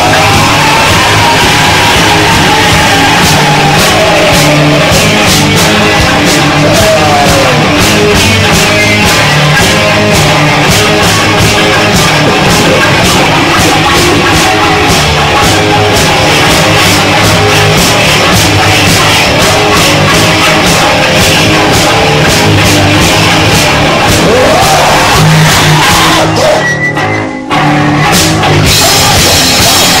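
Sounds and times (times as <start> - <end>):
distorted electric guitar: 0.0 - 30.0
driving drum beat: 0.0 - 30.0.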